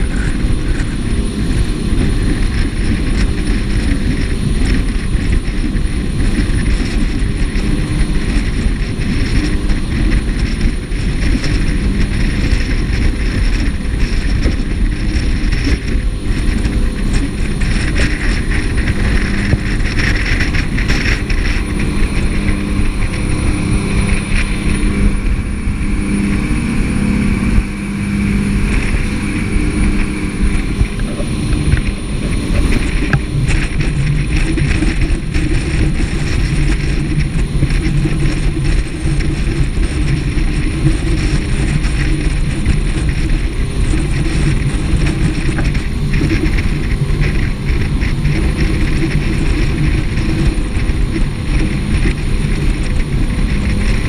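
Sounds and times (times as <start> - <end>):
boat engine drone: 0.0 - 54.0
rushing water noise: 0.0 - 54.0.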